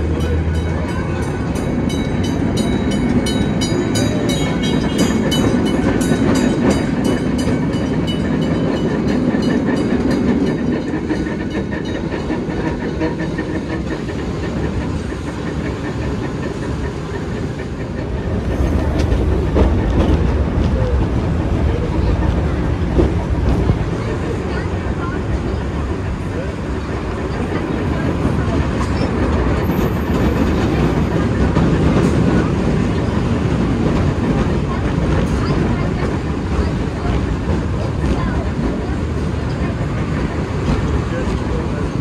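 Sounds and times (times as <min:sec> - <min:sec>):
tram rumbling and humming: 0:00.0 - 0:42.0.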